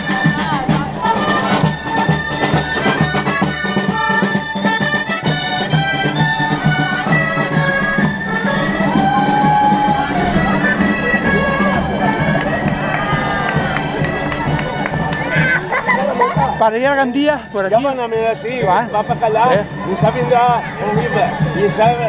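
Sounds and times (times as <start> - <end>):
steady drum beats: 0.0 - 22.0
wind instruments playing a tune: 0.0 - 22.0.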